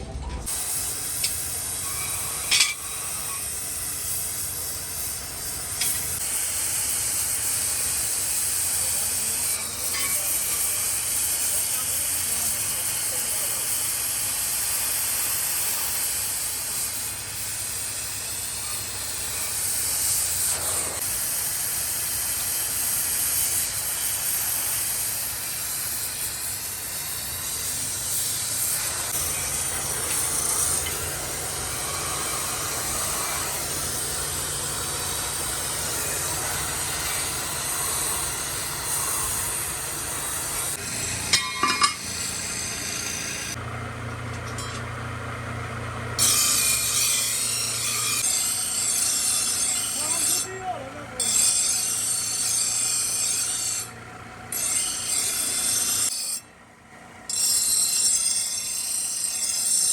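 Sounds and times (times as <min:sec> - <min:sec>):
cutting torch hissing: 0:00.5 - 0:43.6, 0:45.5 - 0:56.5.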